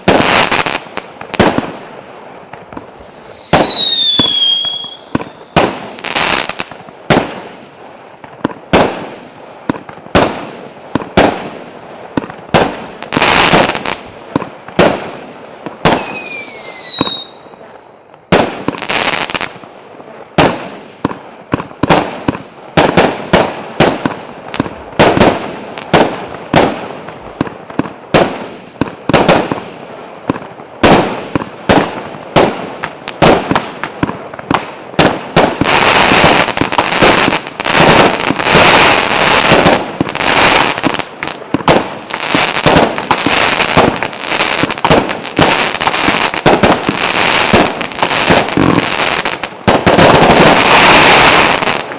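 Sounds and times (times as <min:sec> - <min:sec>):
firework shots crackling: 0:00.0 - 0:51.9.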